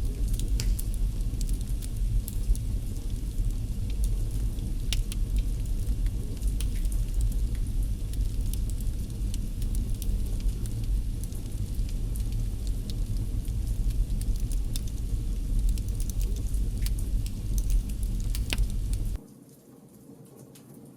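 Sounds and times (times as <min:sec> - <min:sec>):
low rumble of flames: 0:00.0 - 0:19.2
wood fire crackling: 0:00.0 - 0:19.2.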